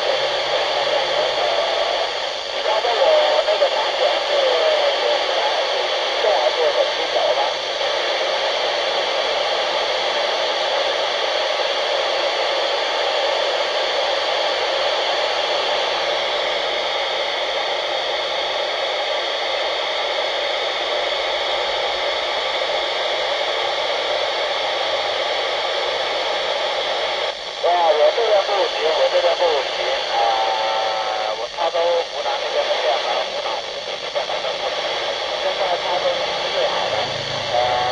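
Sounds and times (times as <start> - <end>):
radio static hiss: 0.0 - 37.9.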